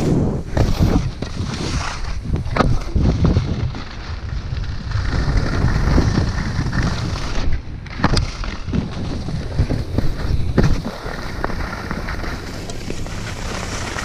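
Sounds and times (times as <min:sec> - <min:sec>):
skis sliding over snow: 0:00.0 - 0:14.0
wind buffeting microphone: 0:00.0 - 0:14.0.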